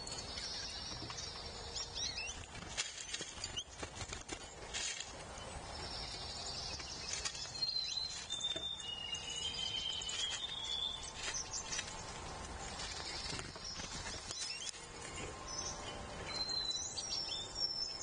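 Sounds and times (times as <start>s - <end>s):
songbirds chirping: 0.0s - 18.0s
clicks and rustles of feeding: 0.2s - 8.9s, 9.8s - 15.5s.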